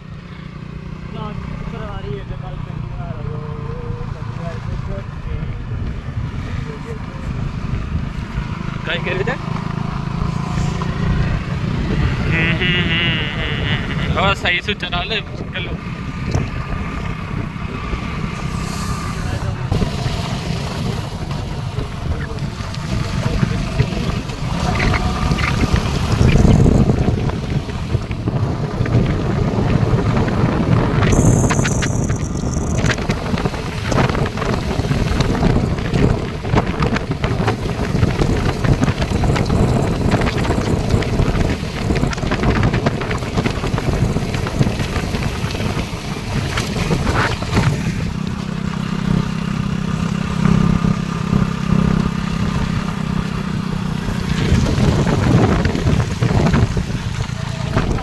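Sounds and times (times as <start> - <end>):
motorcycle engine humming: 0.0 - 58.0
tyres on dirt road: 0.0 - 58.0
wind rushing over microphone: 1.4 - 58.0.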